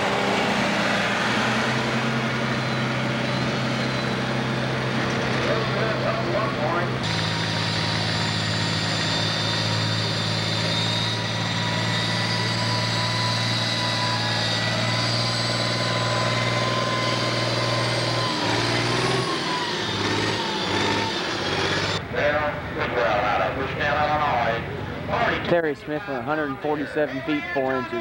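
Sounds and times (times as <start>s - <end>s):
high turbo whine: 0.0s - 26.2s
diesel engine running hard: 0.0s - 28.0s.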